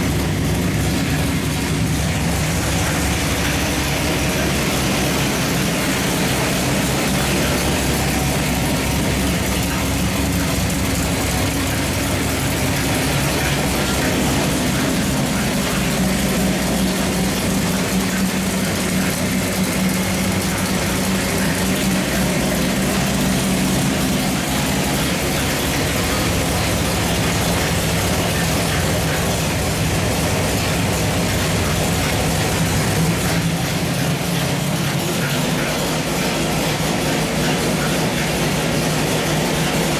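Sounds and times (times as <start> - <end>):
car engine running loudly: 0.0 - 39.9
engine clatter and exhaust: 0.0 - 39.9.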